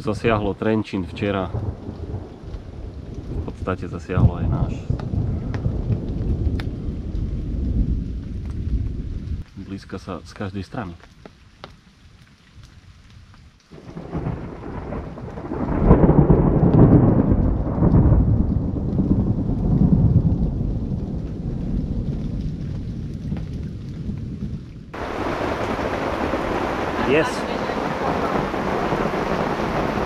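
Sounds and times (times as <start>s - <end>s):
thunder rumbling: 0.0s - 9.4s, 13.7s - 30.0s
rain hissing: 0.0s - 30.0s.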